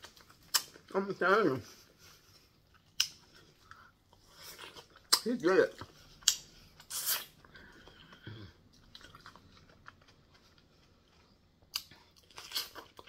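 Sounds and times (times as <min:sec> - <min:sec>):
person chewing and lip smacking: 0:00.0 - 0:01.0, 0:02.2 - 0:13.0.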